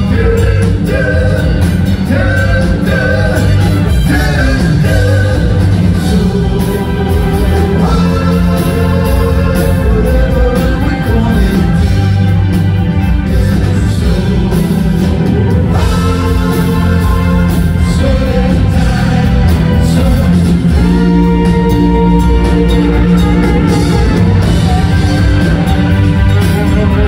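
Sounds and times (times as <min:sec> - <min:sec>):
lead vocals singing: 0:00.0 - 0:27.0
rock band playing live: 0:00.0 - 0:27.0.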